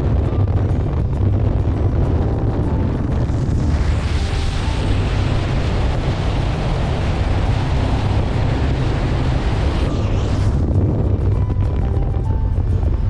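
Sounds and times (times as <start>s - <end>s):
outboard motor running: 0.0s - 13.0s
rushing water: 0.0s - 13.0s
wind buffeting microphone: 0.0s - 13.0s.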